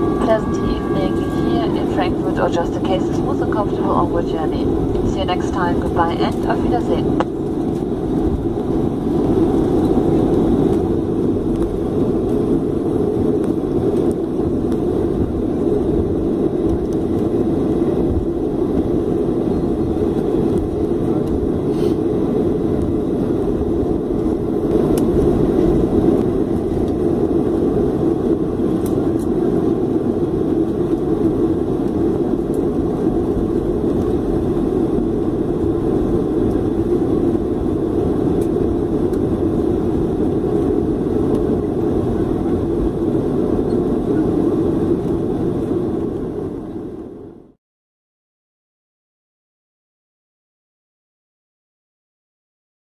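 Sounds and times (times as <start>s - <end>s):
jet engines rumbling in cabin: 0.0s - 47.6s.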